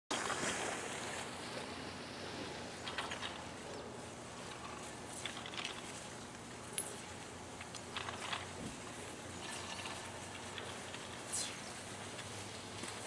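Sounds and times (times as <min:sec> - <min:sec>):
steady outdoor hiss: 0:00.2 - 0:13.0.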